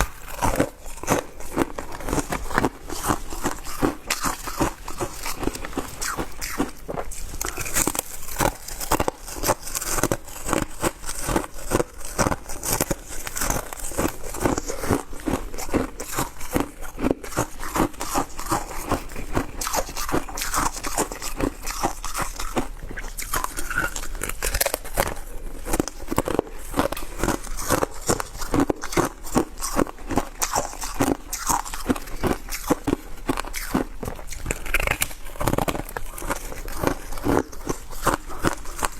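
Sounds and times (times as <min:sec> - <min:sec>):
ice being chewed crunching: 0:00.0 - 0:38.9.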